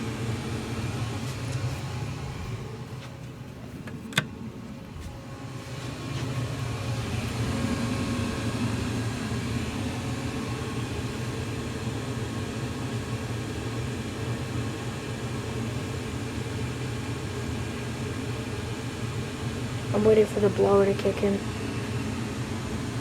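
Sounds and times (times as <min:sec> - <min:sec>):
gas furnace low rumble: 0:00.0 - 0:23.0.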